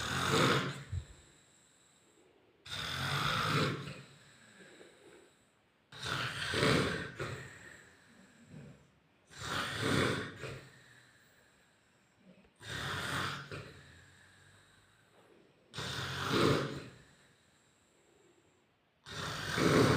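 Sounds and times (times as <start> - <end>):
man snoring: 0.0 - 1.5, 2.6 - 5.2, 5.9 - 15.1, 15.7 - 18.0, 19.0 - 19.9.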